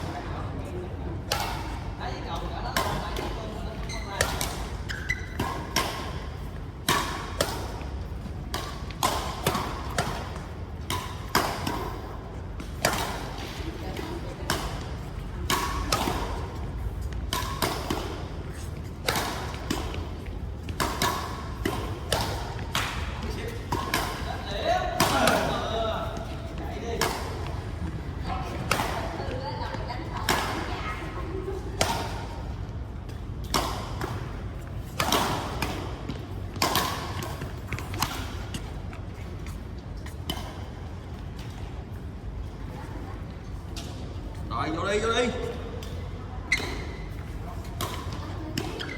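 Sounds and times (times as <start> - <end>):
steady low hum: 0.0 - 48.8
rackets striking shuttlecock: 2.6 - 27.9, 28.5 - 41.6, 45.7 - 48.9.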